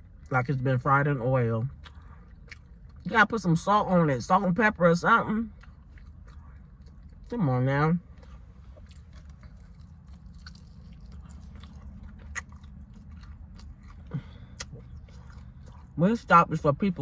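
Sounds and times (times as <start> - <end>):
chewing with wet mouth sounds: 0.0 - 17.0
low steady hum: 0.0 - 17.0.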